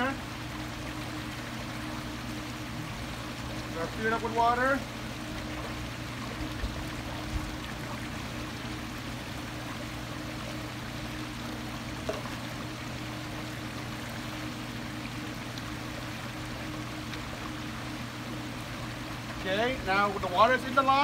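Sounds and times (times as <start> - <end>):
low mains hum: 0.0 - 21.0
running water: 0.0 - 21.0.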